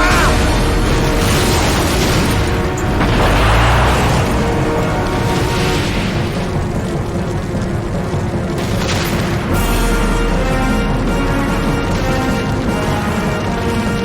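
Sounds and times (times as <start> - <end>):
explosions booming: 0.0 - 14.0
film music score: 0.0 - 14.0.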